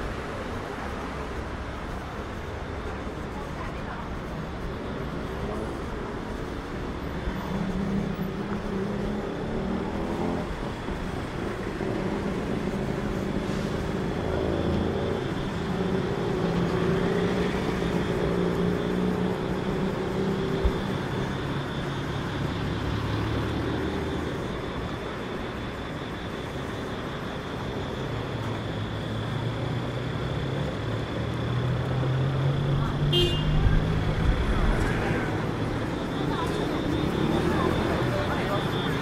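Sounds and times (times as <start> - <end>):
road noise: 0.0 - 39.0
vehicles passing: 0.0 - 39.0.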